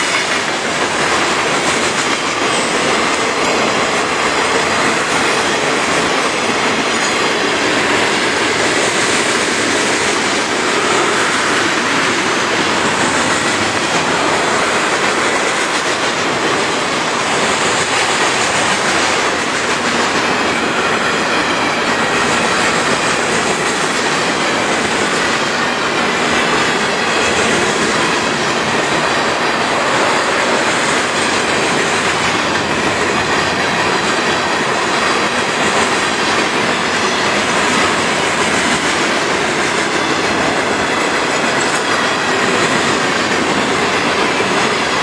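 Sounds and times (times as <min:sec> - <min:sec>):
freight train wheels on rails: 0:00.0 - 0:45.0.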